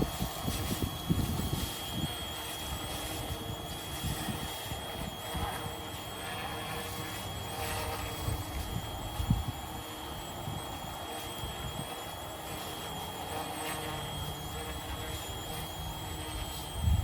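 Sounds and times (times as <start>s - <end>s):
wind on microphone: 0.0s - 12.9s, 14.6s - 17.0s
toy helicopter rotor whine: 0.0s - 17.0s.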